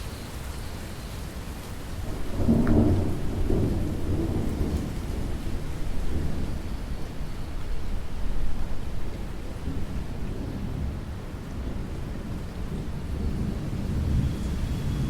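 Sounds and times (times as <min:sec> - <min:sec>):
steady rain falling: 0:00.0 - 0:15.0
thunder rumbling: 0:02.0 - 0:15.0.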